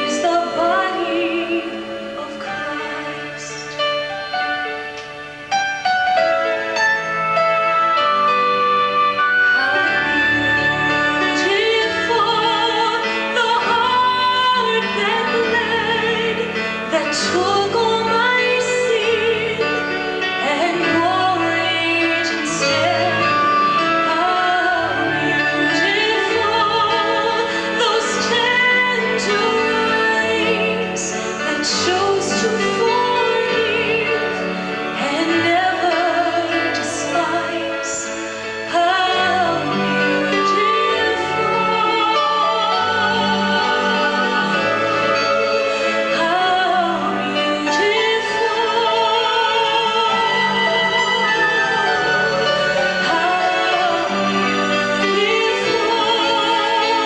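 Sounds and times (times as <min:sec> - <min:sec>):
instrumental accompaniment: 0:00.0 - 0:57.0
vocal group singing slow song: 0:09.6 - 0:57.0.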